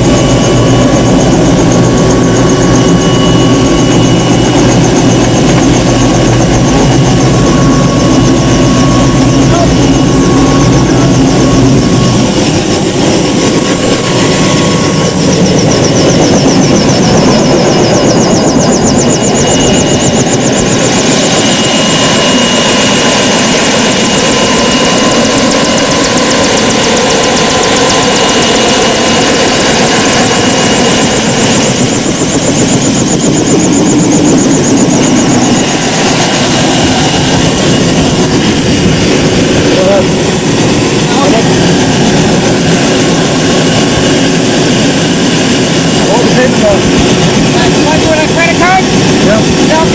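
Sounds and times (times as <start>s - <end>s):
helicopter engine and rotors: 0.0s - 49.9s
thin high whine: 0.0s - 49.9s.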